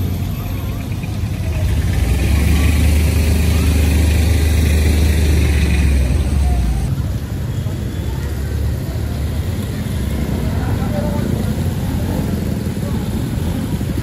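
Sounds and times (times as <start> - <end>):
motorcycles riding past: 0.0 - 14.0.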